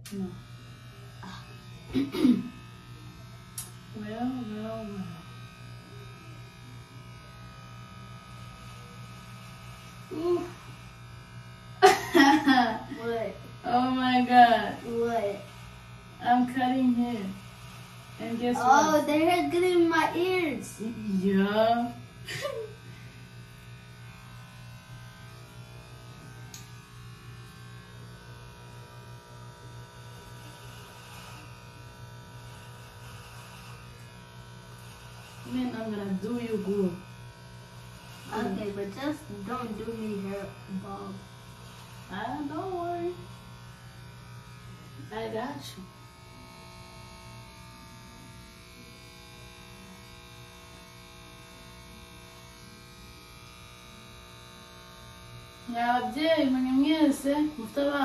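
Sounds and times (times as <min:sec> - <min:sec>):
electric hair clippers buzzing: 0:00.0 - 0:58.0.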